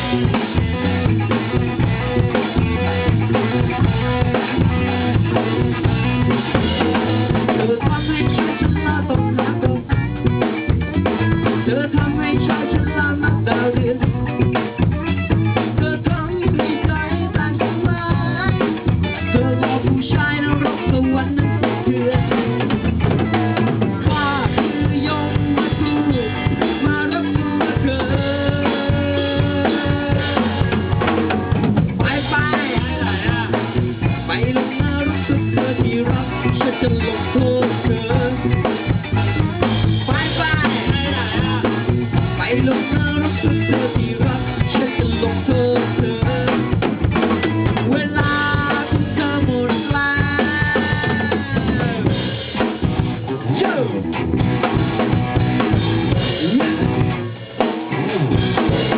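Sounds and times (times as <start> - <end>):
band playing instrumental: 0.0 - 58.9
drum kit beat: 0.0 - 58.9.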